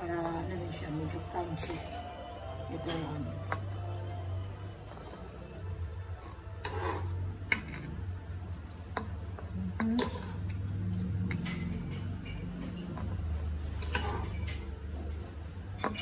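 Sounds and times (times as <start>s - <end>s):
dishes and utensils clinking: 0.0s - 4.0s, 4.8s - 8.2s, 8.8s - 16.0s.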